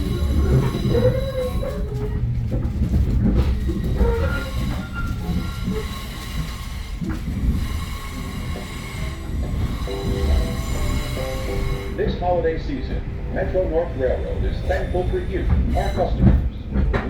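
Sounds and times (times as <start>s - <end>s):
steel wheel squeal: 0.0s - 2.2s, 3.4s - 12.7s, 13.3s - 16.6s
train rumbling on rails: 0.0s - 17.0s.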